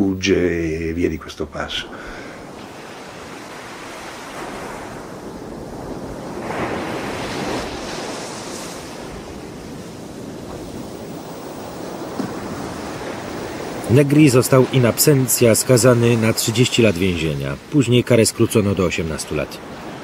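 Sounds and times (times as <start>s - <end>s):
heavy surf waves breaking: 0.0s - 20.0s.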